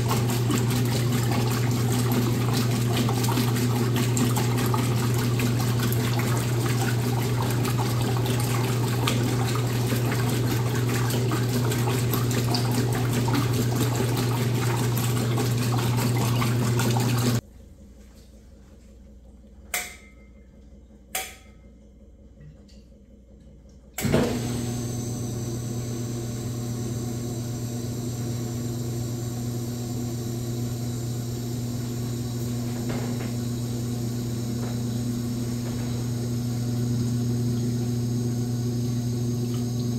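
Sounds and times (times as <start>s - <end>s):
washing machine filling with water: 0.0s - 17.4s, 24.0s - 39.9s
washing machine motor running: 0.0s - 17.4s, 23.0s - 39.9s
electrical hum: 0.0s - 39.9s.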